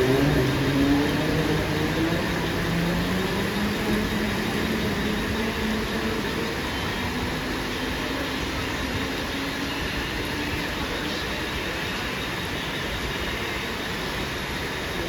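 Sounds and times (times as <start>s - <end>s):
electric train rumble and hiss: 0.0s - 15.0s
heavy rain: 0.0s - 15.0s.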